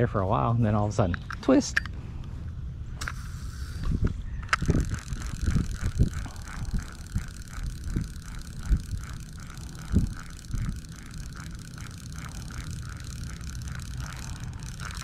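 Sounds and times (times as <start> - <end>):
fishing reel cranking: 3.0 - 15.0.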